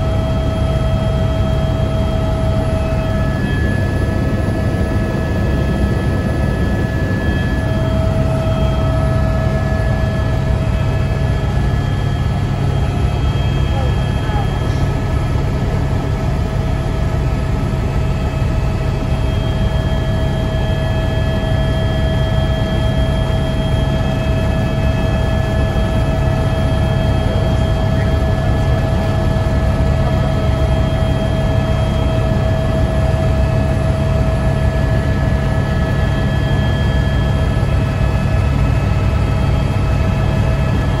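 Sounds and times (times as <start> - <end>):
helicopter engine and rotor rumble: 0.0 - 41.0
high-pitched whine: 0.0 - 41.0.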